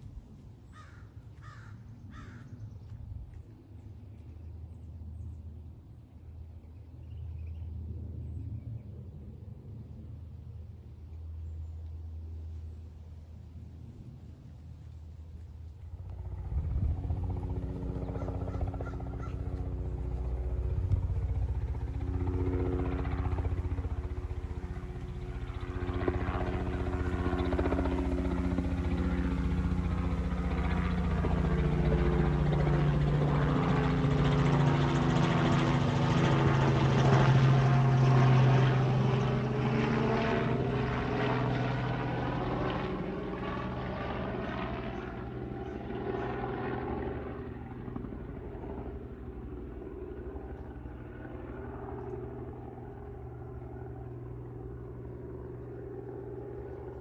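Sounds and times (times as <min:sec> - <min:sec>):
low-flying aircraft engine hum: 0:00.0 - 0:57.0.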